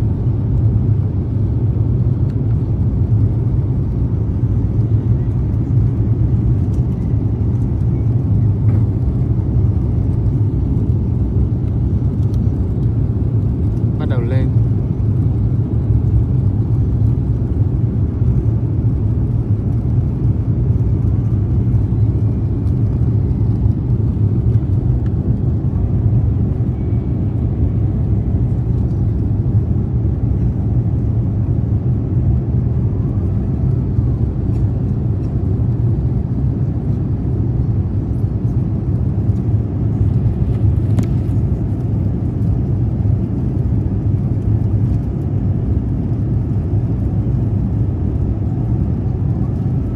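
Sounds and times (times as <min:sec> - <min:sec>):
airliner cabin engine rumble: 0:00.0 - 0:49.9.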